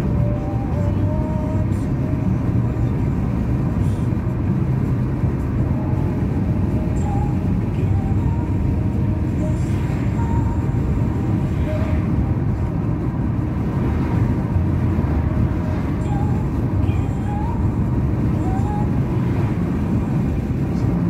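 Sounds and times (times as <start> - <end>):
car cabin road and engine rumble: 0.0 - 21.0.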